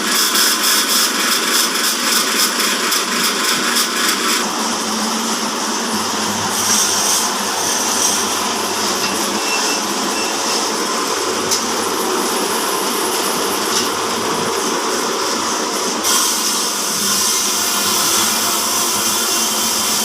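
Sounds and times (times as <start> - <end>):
band saw sawing timber: 0.0 - 20.0.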